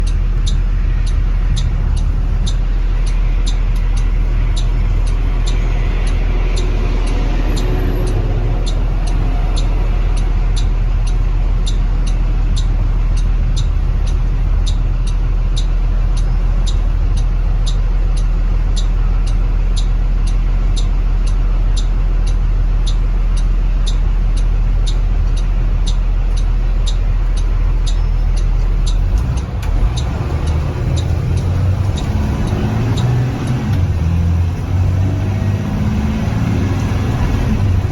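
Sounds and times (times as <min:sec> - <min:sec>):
bus engine drone: 0:00.0 - 0:37.9
sharp repeating tick: 0:00.0 - 0:37.9.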